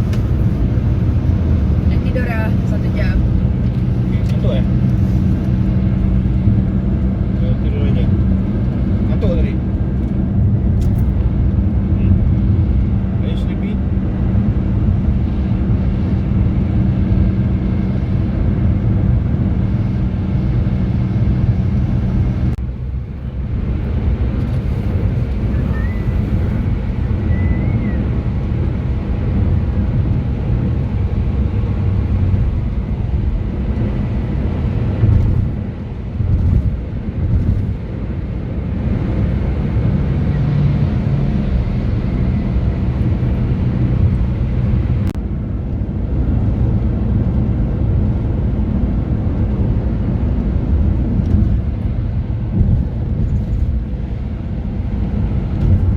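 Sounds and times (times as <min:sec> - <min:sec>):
car road and engine noise: 0:00.0 - 0:55.9.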